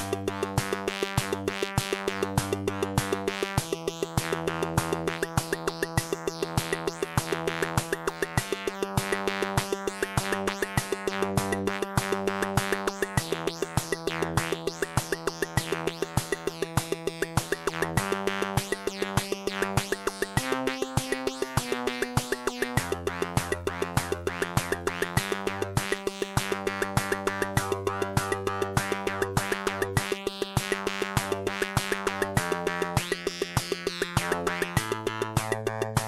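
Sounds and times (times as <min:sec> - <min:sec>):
drum machine percussion: 0:00.0 - 0:36.0.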